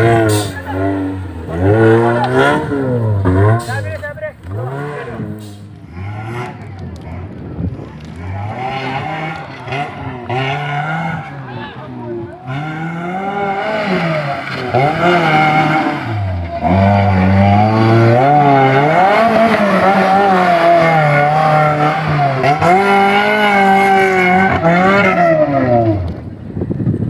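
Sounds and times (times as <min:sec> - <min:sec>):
engine revving hard: 0:00.0 - 0:07.3, 0:08.0 - 0:26.1.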